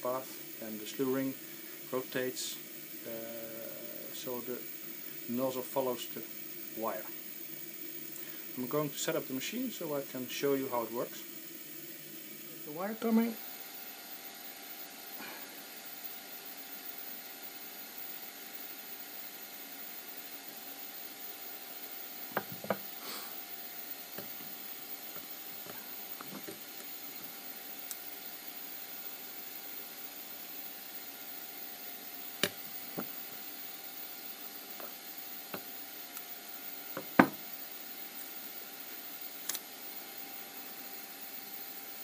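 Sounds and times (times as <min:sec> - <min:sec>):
faint steady hiss: 0:00.0 - 0:42.0.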